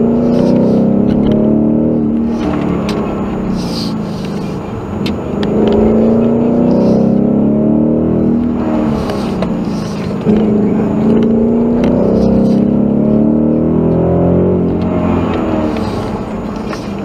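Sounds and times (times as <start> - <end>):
car engine revving inside cabin: 0.0 - 17.0.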